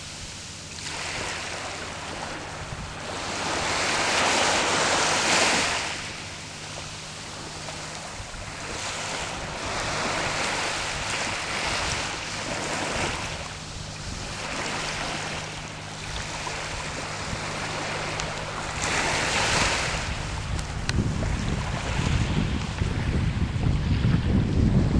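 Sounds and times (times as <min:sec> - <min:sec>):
small waves washing onto shore: 0:00.0 - 0:24.9.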